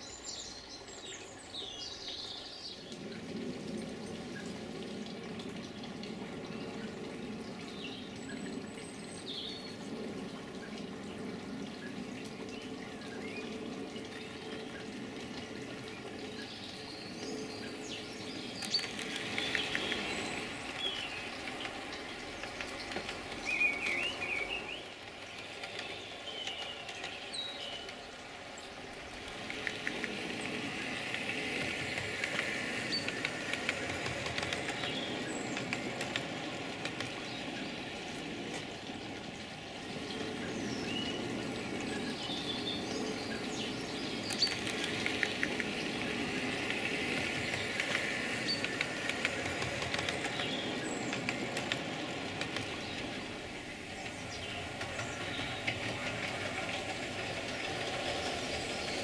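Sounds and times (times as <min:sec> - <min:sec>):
model train wheels rattling on rails: 0:00.8 - 0:59.0.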